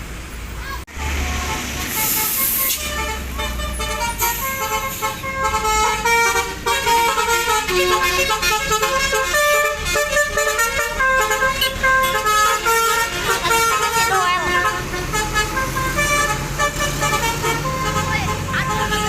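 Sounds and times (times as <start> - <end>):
bus horn playing a melody: 1.0 - 19.0.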